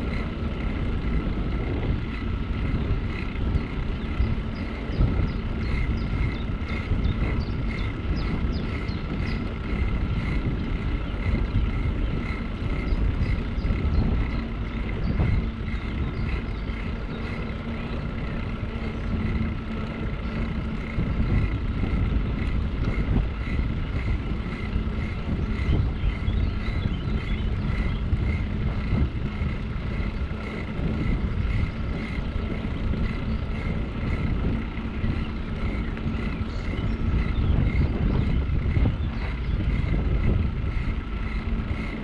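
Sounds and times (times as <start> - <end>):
bicycle tyres rolling on road: 0.0 - 42.0
faint regular ticking: 0.0 - 42.0
wind rushing over microphone: 0.0 - 42.0.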